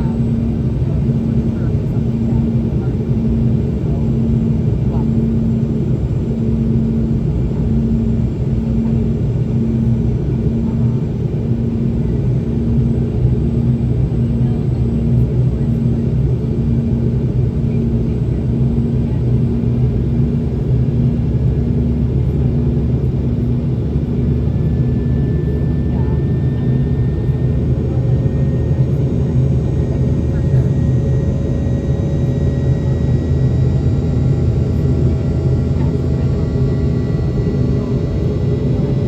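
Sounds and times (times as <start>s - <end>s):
aircraft cabin engine drone: 0.0s - 39.0s.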